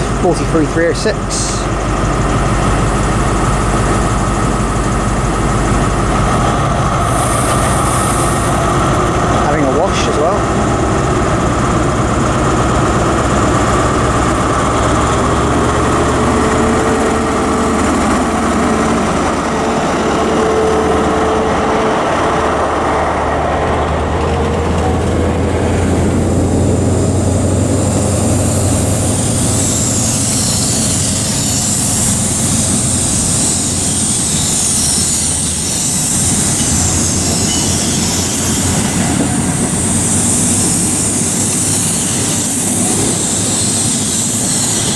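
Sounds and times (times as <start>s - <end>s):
diesel train engine droning: 0.0s - 44.9s
train wheels rolling on rails: 0.0s - 44.9s.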